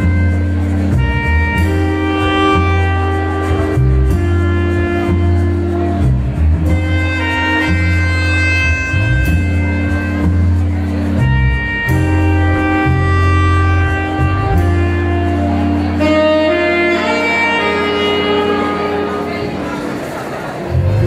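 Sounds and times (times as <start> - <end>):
deep bass line: 0.0 - 19.6, 20.7 - 21.0
keyboard notes: 0.0 - 21.0
saxophone notes: 0.0 - 21.0.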